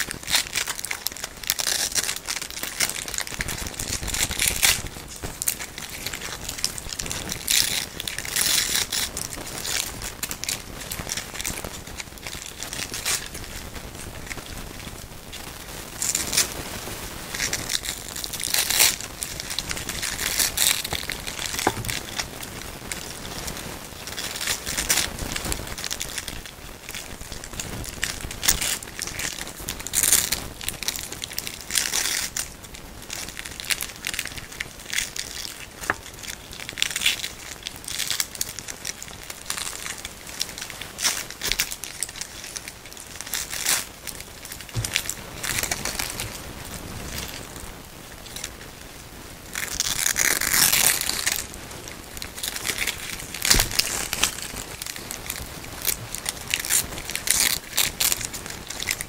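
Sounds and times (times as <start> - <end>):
velcro ripping and crackling: 0.0 - 59.0.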